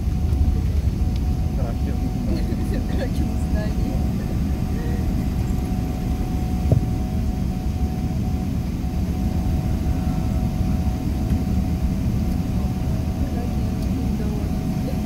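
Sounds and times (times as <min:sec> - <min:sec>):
jet engines and wheels rumbling: 0:00.0 - 0:15.0.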